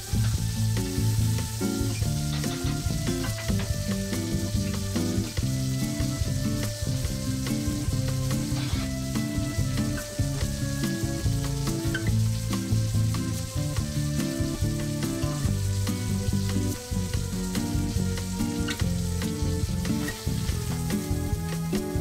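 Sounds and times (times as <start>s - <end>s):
crackles and pops: 0.0s - 22.0s
steak sizzling in butter: 0.0s - 22.0s.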